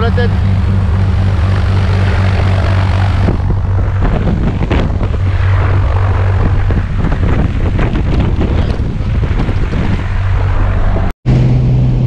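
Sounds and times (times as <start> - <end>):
light aircraft engine running: 0.0 - 12.0
propeller wind buffeting microphone: 0.0 - 12.0.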